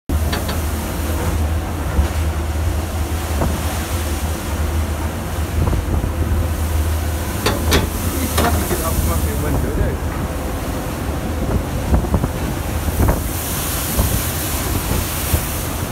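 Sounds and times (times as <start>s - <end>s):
rough sea surging and breaking: 0.1s - 15.9s
steady low rumble: 0.1s - 15.9s
strong wind buffeting microphone: 0.1s - 15.9s.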